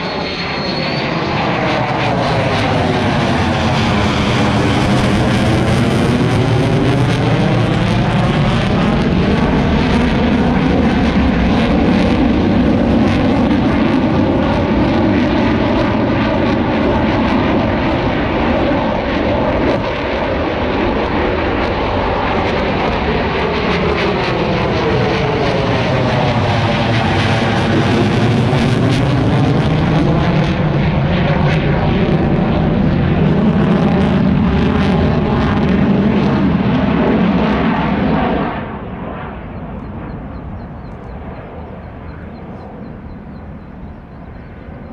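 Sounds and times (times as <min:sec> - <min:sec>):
aircraft engines passing: 0:00.0 - 0:44.9.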